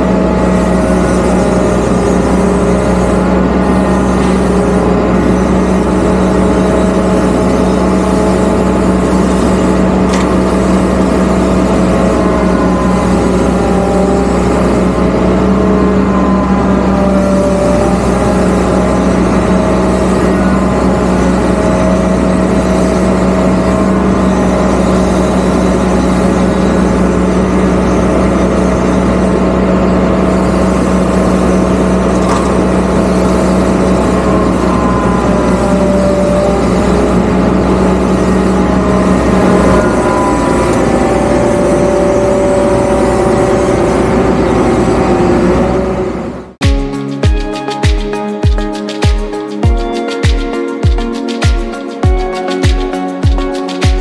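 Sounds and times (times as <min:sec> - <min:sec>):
hydraulic whine: 0:00.0 - 0:46.6
diesel engine running: 0:00.0 - 0:54.0.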